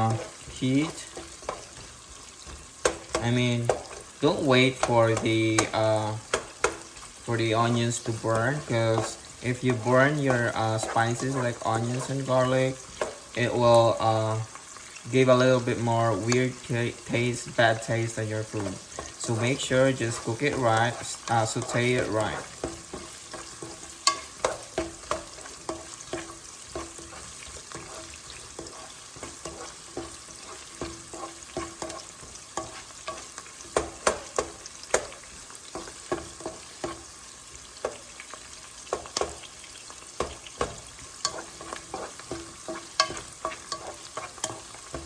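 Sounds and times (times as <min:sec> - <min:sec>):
utensil scraping against pan: 0:00.0 - 0:13.5, 0:16.2 - 0:45.0
onions sizzling in a pan: 0:00.0 - 0:45.0.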